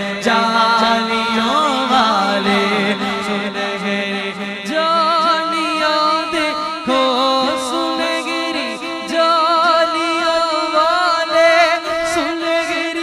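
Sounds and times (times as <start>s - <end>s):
men singing unaccompanied: 0.0s - 13.0s.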